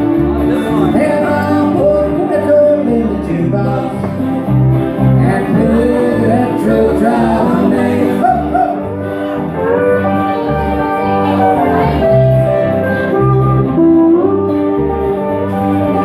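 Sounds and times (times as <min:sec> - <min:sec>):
pedal steel guitar: 0:00.0 - 0:16.0
pulsing low bass line: 0:00.0 - 0:16.0
strummed acoustic guitar: 0:00.0 - 0:16.0.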